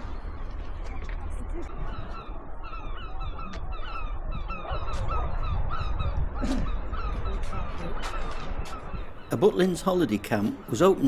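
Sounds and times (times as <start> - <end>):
flock of birds calling: 1.6 - 11.0.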